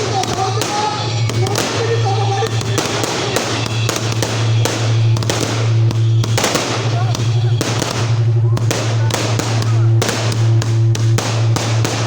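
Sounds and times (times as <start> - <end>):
firecrackers banging and crackling: 0.0 - 12.0
steady low hum: 0.0 - 12.0.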